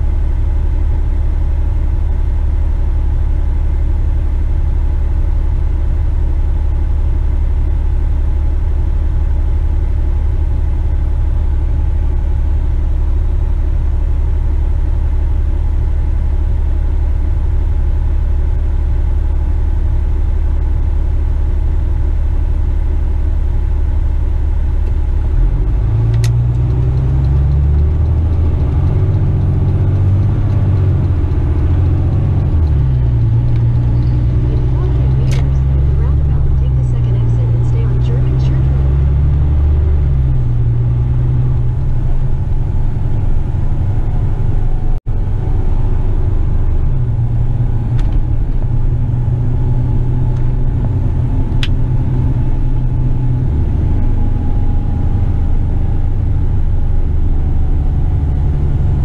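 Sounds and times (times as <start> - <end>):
diesel truck engine idling and revving: 0.0 - 59.0.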